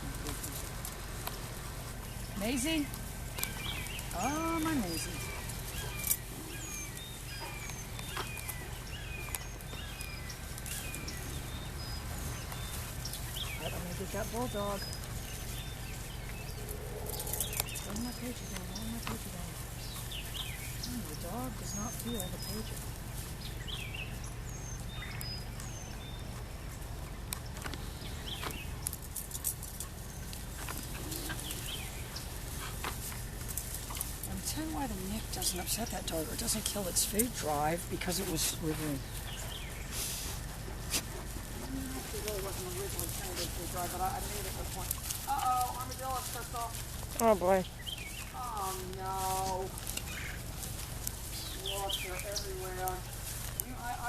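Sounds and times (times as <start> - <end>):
steady low rumble: 0.0 - 49.0
birds chirping: 0.0 - 54.0.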